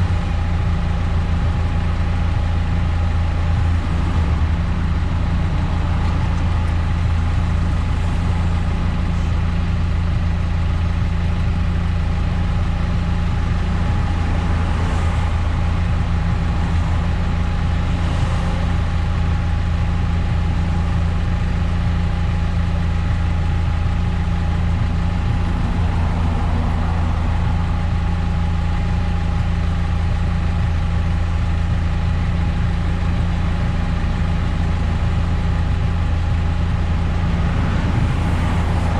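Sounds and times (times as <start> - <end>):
car engine and road noise drone: 0.0 - 38.9.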